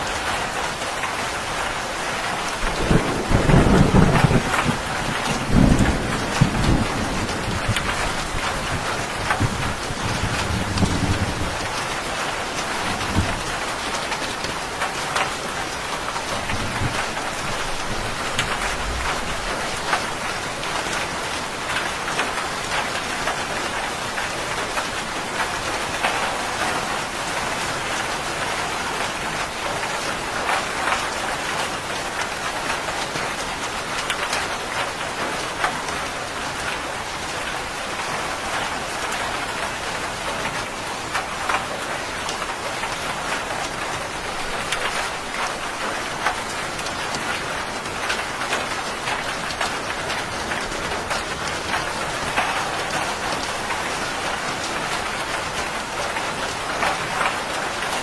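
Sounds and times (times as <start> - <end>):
heavy rain on hard surfaces: 0.0 - 58.0.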